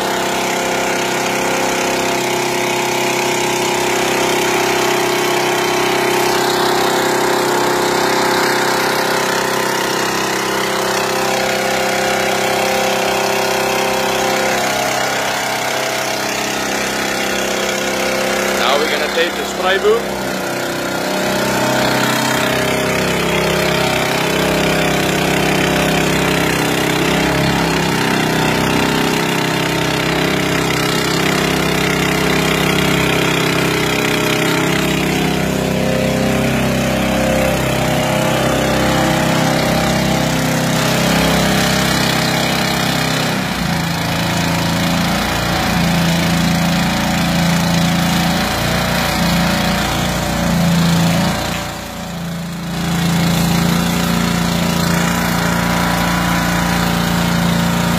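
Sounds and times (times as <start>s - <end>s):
small engine driving pump: 0.0s - 57.9s.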